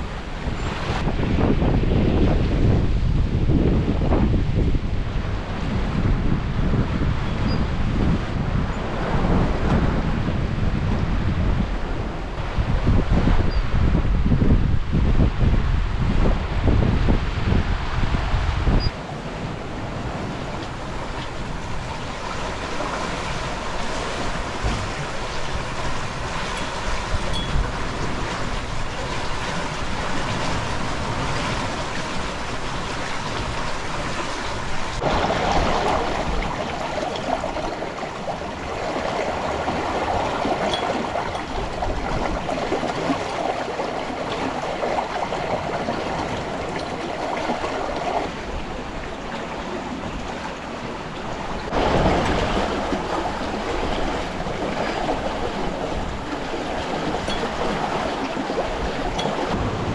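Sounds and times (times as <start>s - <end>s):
water rushing along a boat hull: 0.0s - 59.9s.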